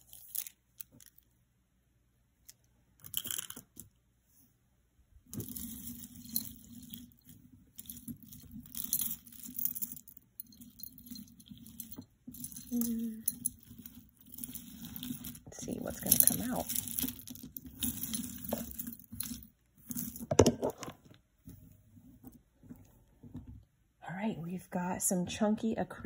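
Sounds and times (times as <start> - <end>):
rummaging through jewelry: 0.0 - 1.4, 2.4 - 4.0, 5.2 - 23.7.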